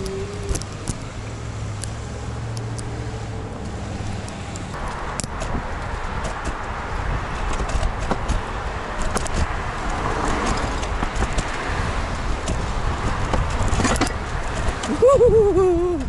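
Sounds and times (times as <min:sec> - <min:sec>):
wind and road rumble: 0:00.0 - 0:16.0.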